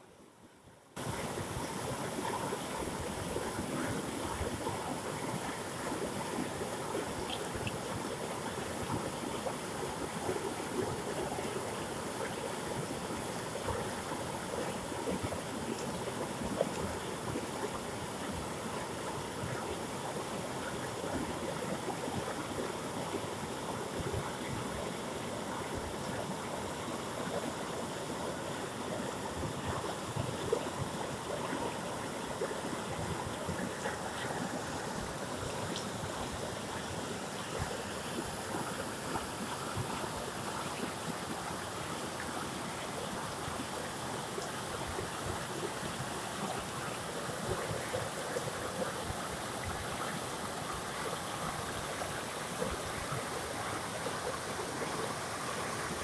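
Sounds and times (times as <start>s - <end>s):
river rushing over rocks: 1.0s - 56.0s.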